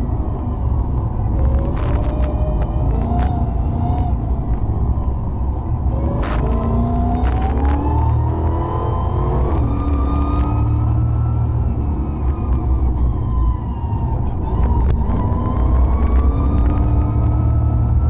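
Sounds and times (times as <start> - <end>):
rally car engine under load: 0.0 - 18.0.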